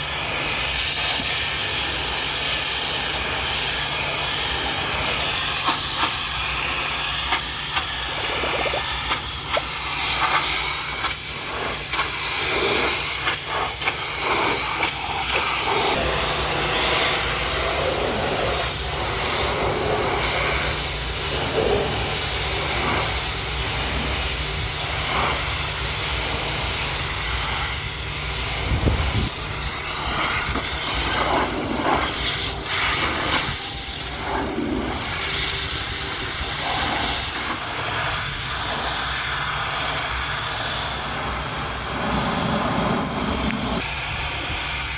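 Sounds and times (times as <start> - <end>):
pressure washer spraying water: 0.0 - 44.9.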